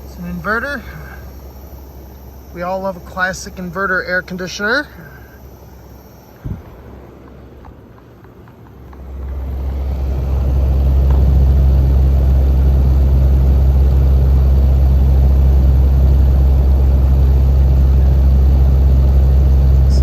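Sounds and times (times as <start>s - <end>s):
air conditioner hum with rushing air: 0.0s - 20.0s.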